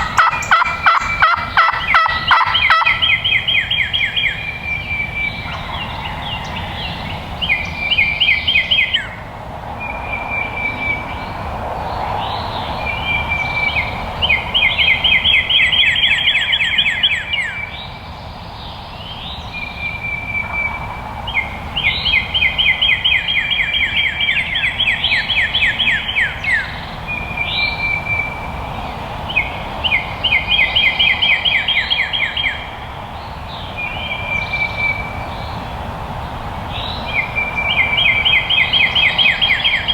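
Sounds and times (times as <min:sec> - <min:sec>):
songbird whistle and trill: 0:00.0 - 0:09.2, 0:12.2 - 0:35.6, 0:36.7 - 0:39.9
faint outdoor background noise: 0:00.0 - 0:39.9.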